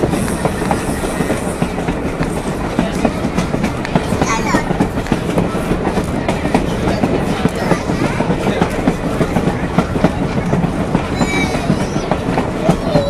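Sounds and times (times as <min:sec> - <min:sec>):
train cars rattling: 0:00.0 - 0:13.0
wheels clattering over rails: 0:00.0 - 0:13.0.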